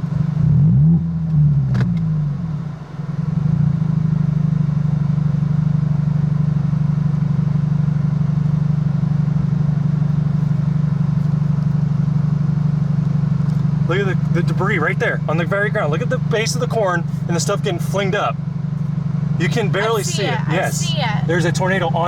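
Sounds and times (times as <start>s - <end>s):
road noise: 0.0s - 7.4s, 8.3s - 22.0s
car engine drone: 0.0s - 22.0s.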